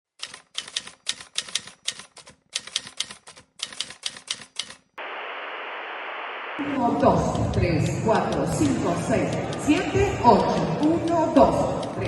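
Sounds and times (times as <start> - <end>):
rapid clicking: 0.2 - 5.0, 7.0 - 12.0.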